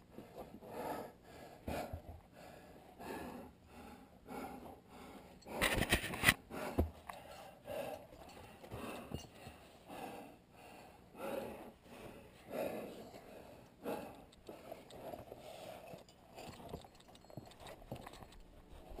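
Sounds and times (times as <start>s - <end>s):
person panting heavily: 0.0s - 5.8s, 6.4s - 16.1s.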